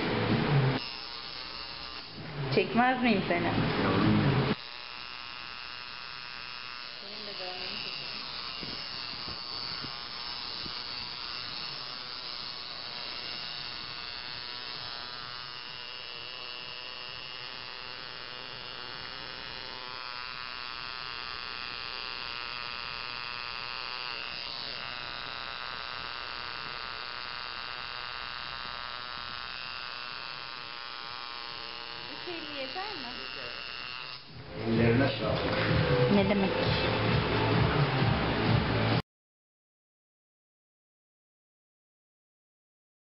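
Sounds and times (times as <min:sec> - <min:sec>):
tattoo machine buzzing: 0:00.0 - 0:39.0.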